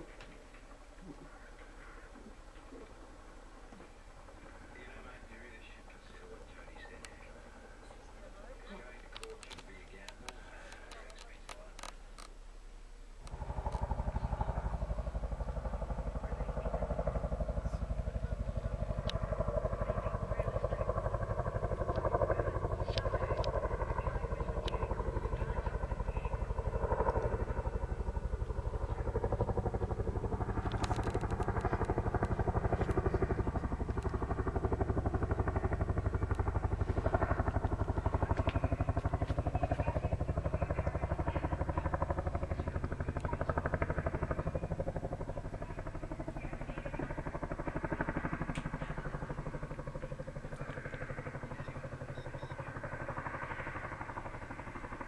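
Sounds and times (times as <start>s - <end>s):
helicopter rotors chopping: 0.0s - 12.4s, 13.2s - 55.0s.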